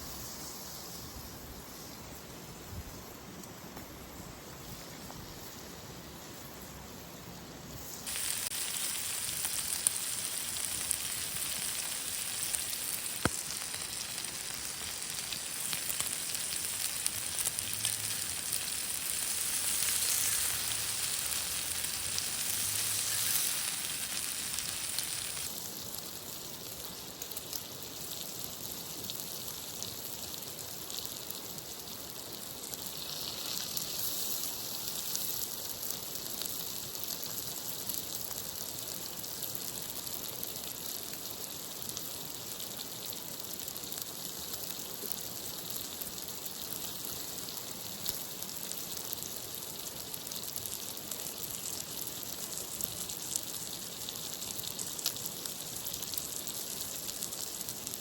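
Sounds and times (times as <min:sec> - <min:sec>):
food sizzling in a frying pan: 0:07.7 - 0:58.0.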